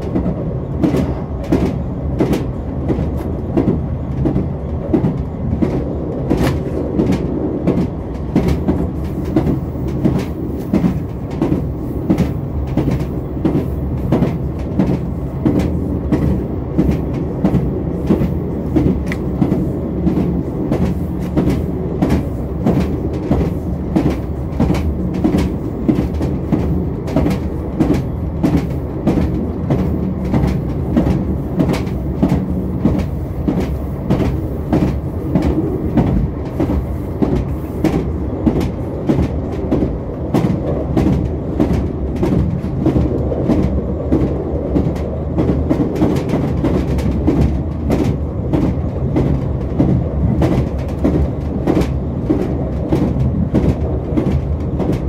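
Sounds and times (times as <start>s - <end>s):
train rumble: 0.0s - 55.0s
train wheels clicking over joints: 0.0s - 55.0s.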